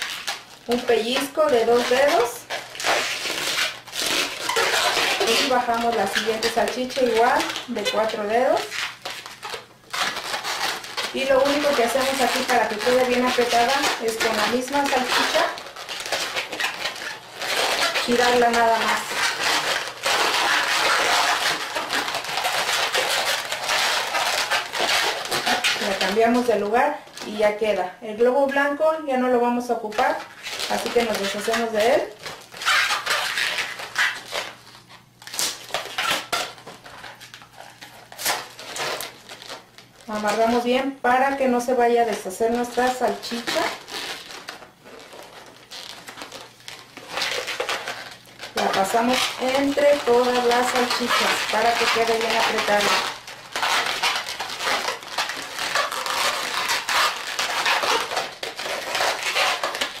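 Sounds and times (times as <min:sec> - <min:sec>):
balloons squeaking and rubbing: 0:00.0 - 1:00.0.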